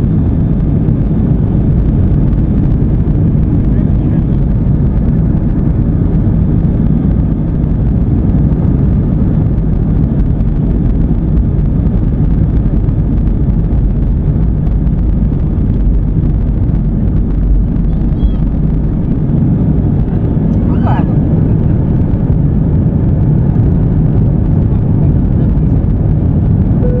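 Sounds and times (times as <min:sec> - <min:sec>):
jet engines deep rumble in cabin: 0:00.0 - 0:27.0.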